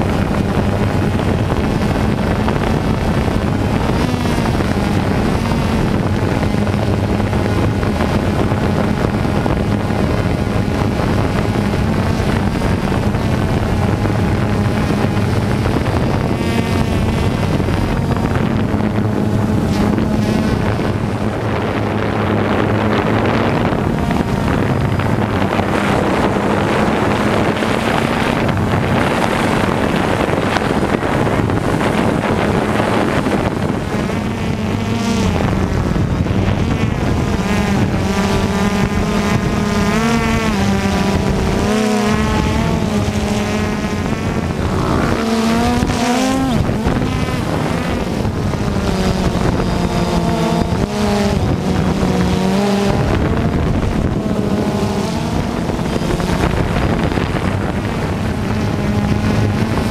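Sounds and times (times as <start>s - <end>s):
quadcopter motors buzzing: 0.0s - 59.9s.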